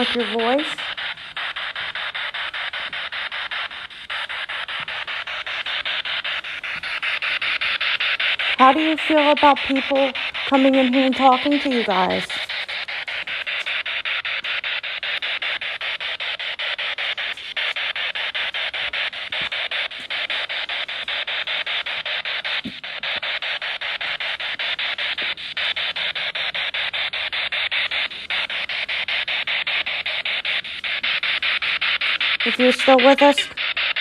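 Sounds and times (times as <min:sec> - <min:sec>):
pulsing radio static: 0:00.0 - 0:34.0.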